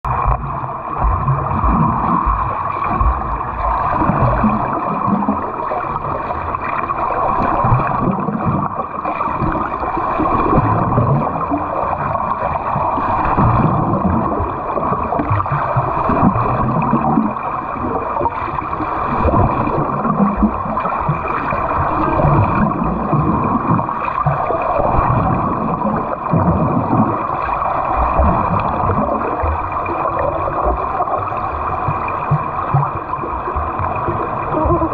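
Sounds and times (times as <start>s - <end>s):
water churning and splashing: 0.0s - 34.9s.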